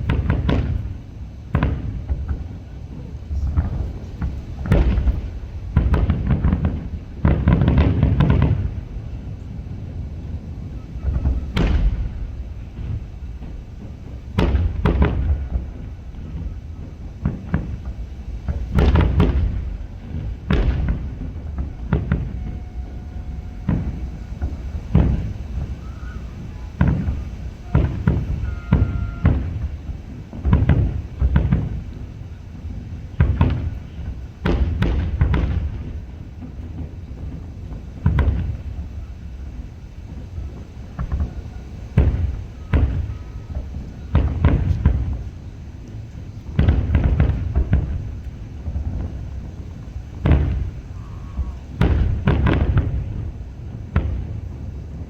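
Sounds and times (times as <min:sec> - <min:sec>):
fireworks booming: 0:00.0 - 0:55.0
low rumbling echo: 0:00.0 - 0:55.0.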